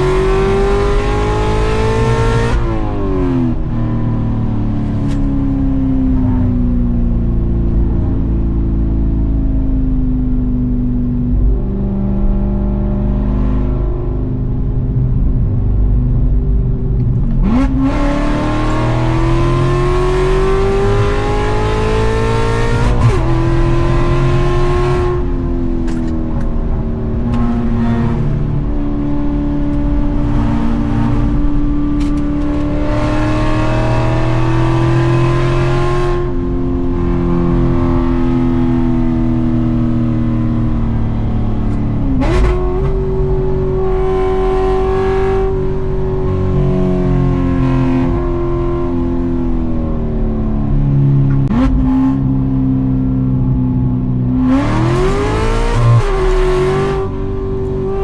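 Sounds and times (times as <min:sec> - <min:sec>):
sports car engine revving: 0:00.0 - 0:08.5, 0:15.7 - 0:58.0.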